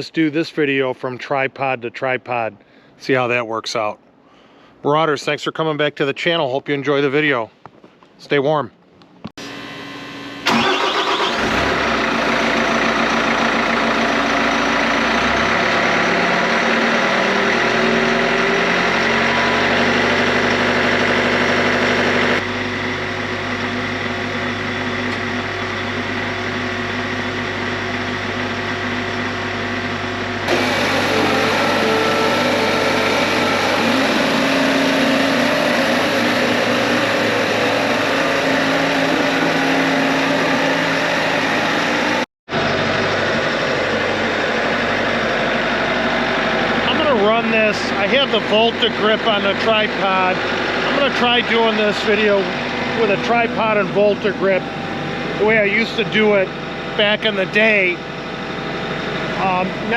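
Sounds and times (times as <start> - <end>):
diesel engine starting and idling: 9.4 - 59.9.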